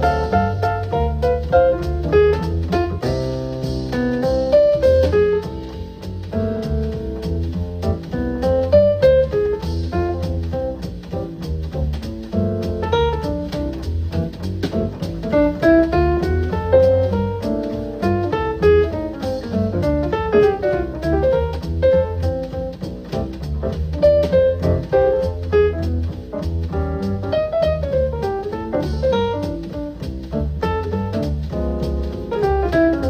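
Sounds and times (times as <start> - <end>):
jazz through portable speaker: 0.0 - 33.0.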